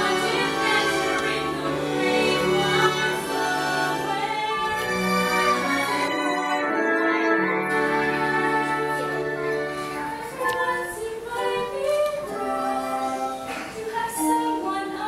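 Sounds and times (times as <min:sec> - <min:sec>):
orchestral musical accompaniment: 0:00.0 - 0:15.0.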